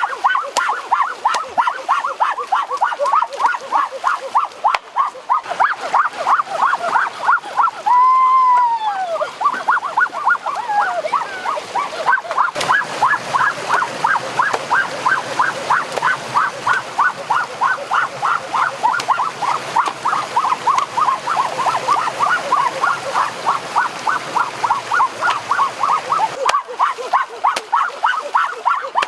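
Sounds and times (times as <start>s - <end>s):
long rising and falling call: 0.0s - 29.0s
rushing stream water: 0.0s - 29.0s.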